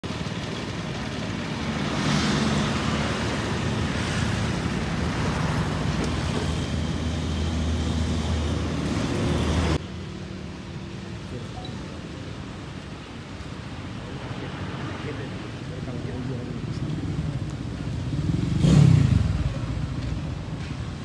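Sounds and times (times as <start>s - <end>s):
road and wind noise: 0.0s - 21.0s
traffic passing: 0.0s - 21.0s.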